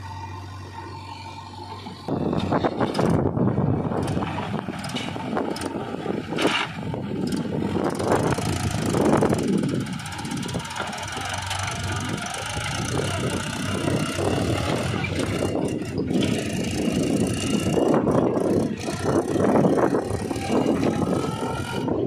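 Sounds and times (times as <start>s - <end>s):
backhoe diesel engine under load: 0.0s - 22.0s
tractor diesel engine running: 0.0s - 22.0s.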